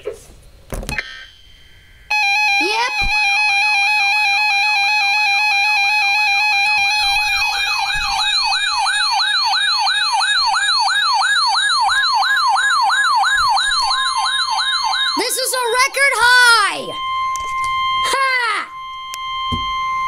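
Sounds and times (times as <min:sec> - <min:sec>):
siren-like whoop: 0:02.1 - 0:15.6, 0:16.2 - 0:20.0.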